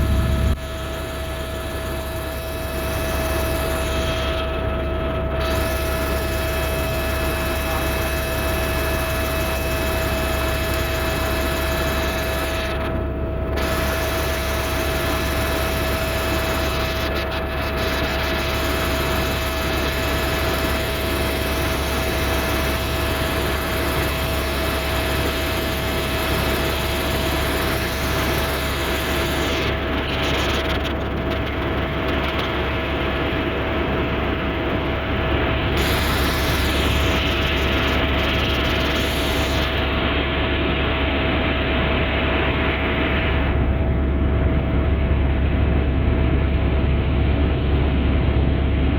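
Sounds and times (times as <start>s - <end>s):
helicopter engine and rotor: 0.0s - 48.9s.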